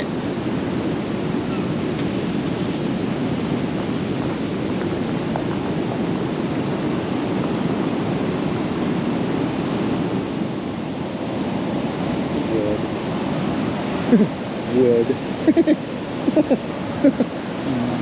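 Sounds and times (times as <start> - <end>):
sea surf: 0.0 - 18.0
wind: 0.0 - 18.0.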